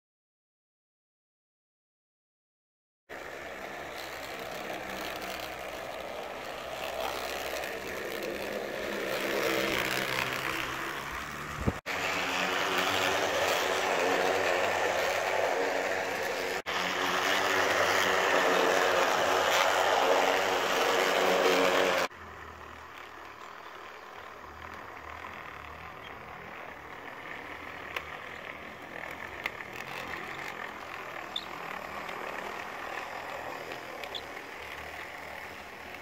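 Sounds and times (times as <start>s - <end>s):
model locomotive whirring hum: 3.1s - 36.0s.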